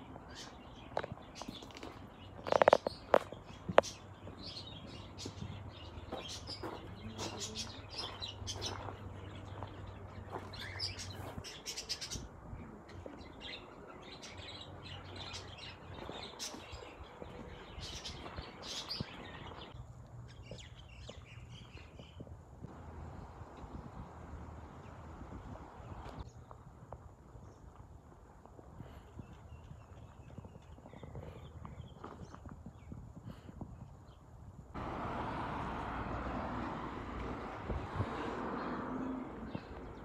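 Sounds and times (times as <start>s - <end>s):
small birds chirping: 0.0s - 34.6s, 37.4s - 40.0s.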